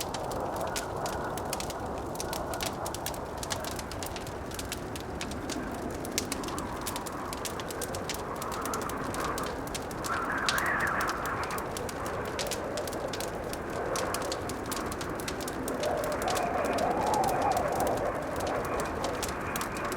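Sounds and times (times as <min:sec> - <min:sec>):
blizzard wind howling: 0:00.0 - 0:19.9
wood fire crackling: 0:00.0 - 0:19.9.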